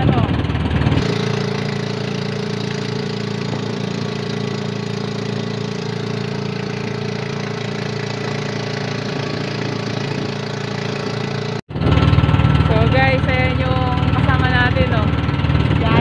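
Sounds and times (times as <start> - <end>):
boat engine humming: 0.0 - 16.0
water rushing along hull: 0.0 - 16.0.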